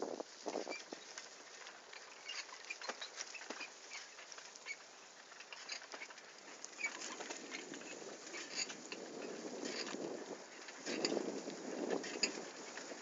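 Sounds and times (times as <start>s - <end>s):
bicycle rattling on dirt track: 0.0s - 13.0s.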